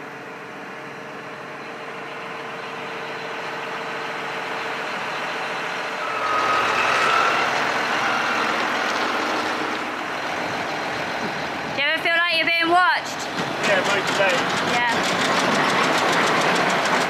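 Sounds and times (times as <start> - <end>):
engine whine: 0.0 - 17.0
tractor engine running: 0.0 - 17.0.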